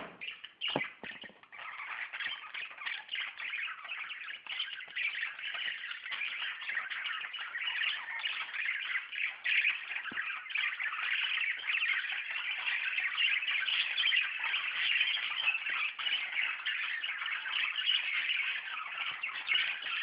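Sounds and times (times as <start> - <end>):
budgerigars chattering and warbling: 0.0 - 20.0.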